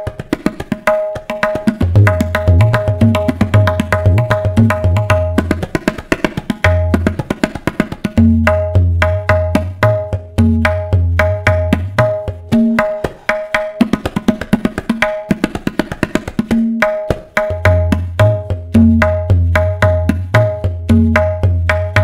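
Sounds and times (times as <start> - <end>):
tabla strokes ringing: 0.0 - 22.0.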